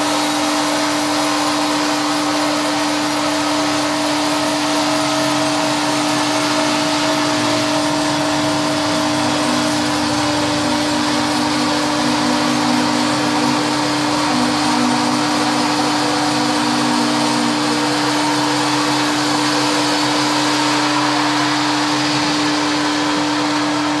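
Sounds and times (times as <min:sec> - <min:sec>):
band saw cutting log: 0:00.0 - 0:24.0.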